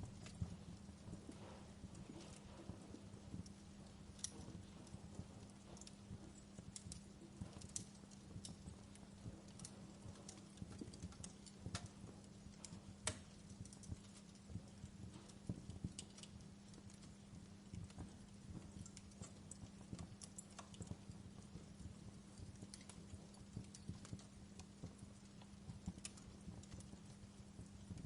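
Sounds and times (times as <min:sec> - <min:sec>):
faint steady hum: 0:00.0 - 0:28.0
wood fire crackling and popping: 0:00.0 - 0:28.0.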